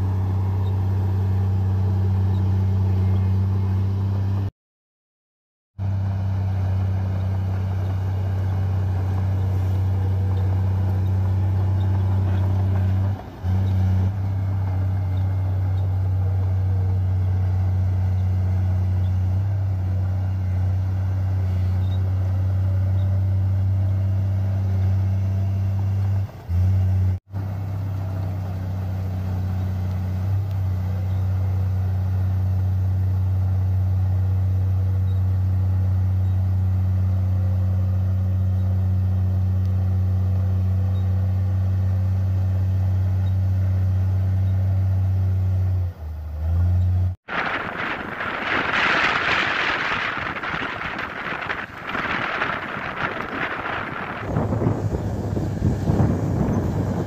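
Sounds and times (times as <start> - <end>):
bulldozer diesel engine droning: 0.0 - 4.5, 5.8 - 57.0.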